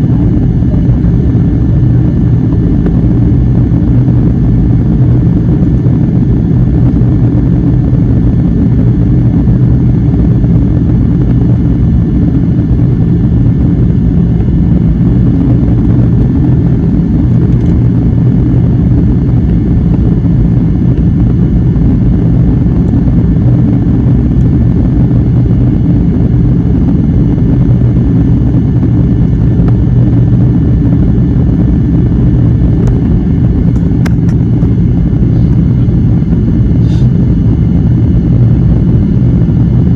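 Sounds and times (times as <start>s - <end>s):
airliner cabin engine roar: 0.0s - 39.9s.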